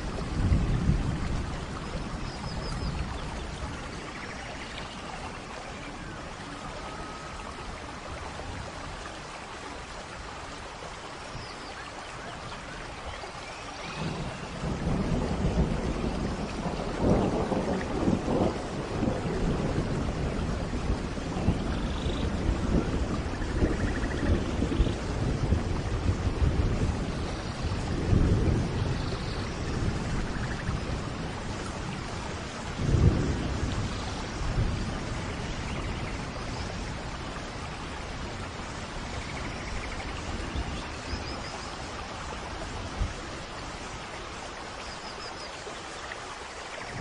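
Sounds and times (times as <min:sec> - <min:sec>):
low rumbles of thunder: 0:00.0 - 0:09.1, 0:13.7 - 0:44.4
steady rain falling: 0:00.0 - 0:47.0.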